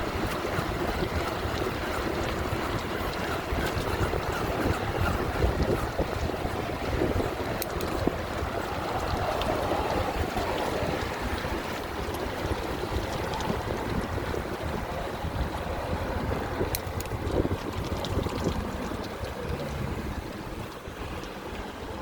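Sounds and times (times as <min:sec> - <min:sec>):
wind rushing on microphone: 0:00.0 - 0:22.0.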